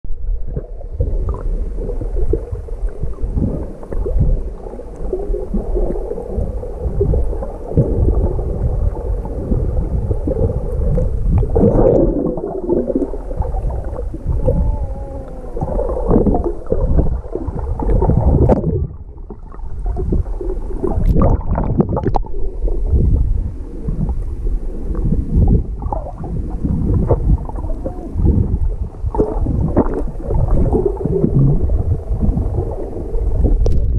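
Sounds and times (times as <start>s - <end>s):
underwater knocks and gurgles: 0.1s - 33.9s
underwater sloshing and rumbling: 0.1s - 33.9s.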